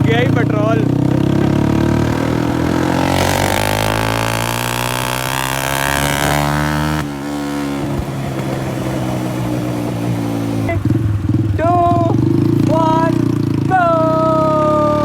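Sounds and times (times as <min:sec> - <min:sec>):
motorcycle engine loud exhaust: 0:00.0 - 0:15.0.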